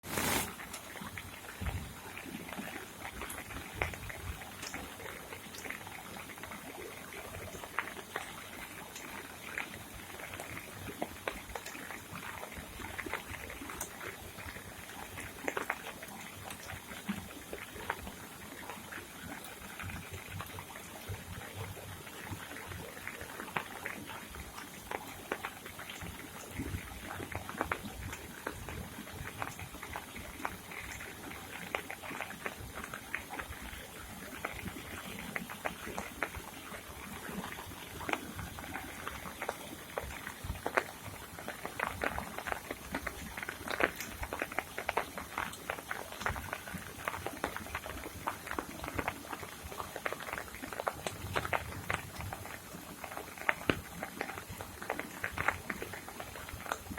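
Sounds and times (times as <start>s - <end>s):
rain falling: 0.0s - 56.9s
rainwater drips and splashes: 0.0s - 56.9s.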